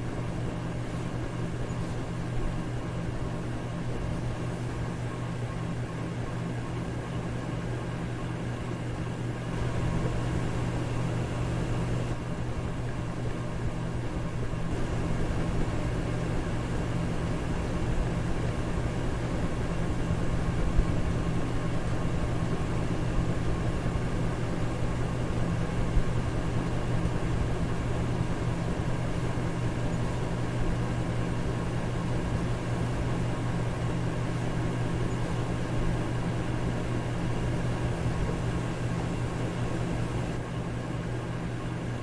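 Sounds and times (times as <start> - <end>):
electric fan running: 0.0 - 42.0.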